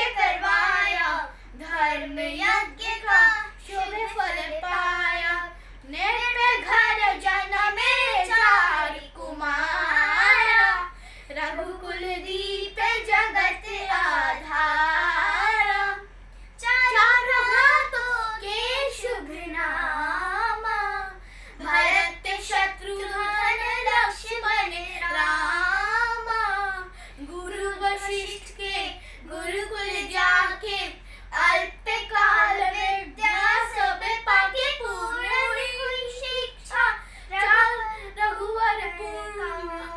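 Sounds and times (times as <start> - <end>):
child singing: 0.0 - 39.9.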